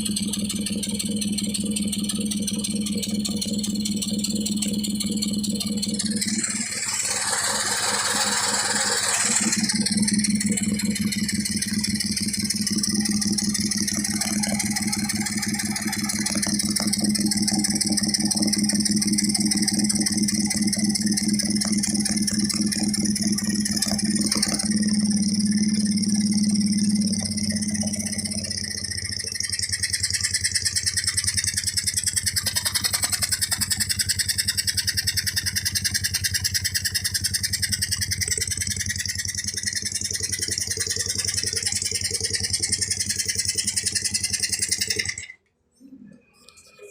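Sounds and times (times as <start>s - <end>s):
motorcycle engine running: 0.0s - 45.4s.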